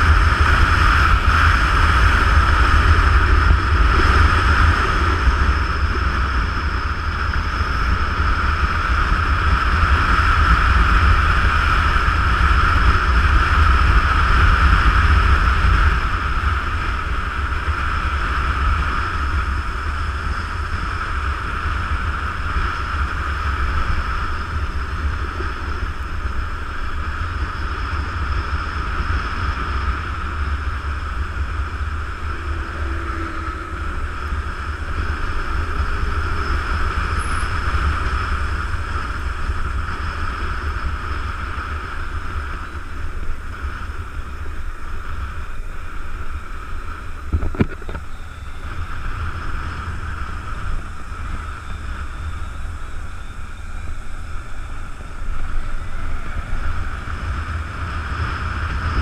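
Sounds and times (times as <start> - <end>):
motorcycle engine: 0.0 - 59.0
road noise: 0.0 - 59.0
wind buffeting microphone: 0.0 - 59.0.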